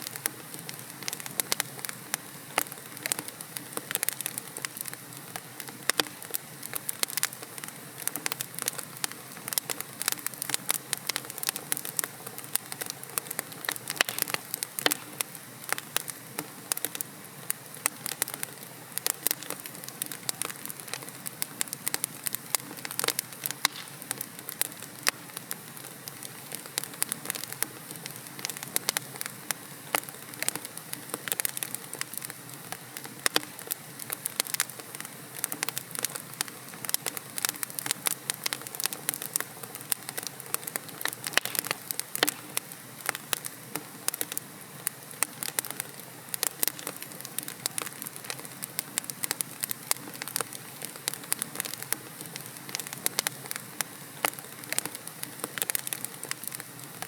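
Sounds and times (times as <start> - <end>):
flames hissing: 0.0 - 57.0
wood fire crackling and popping: 0.0 - 57.0.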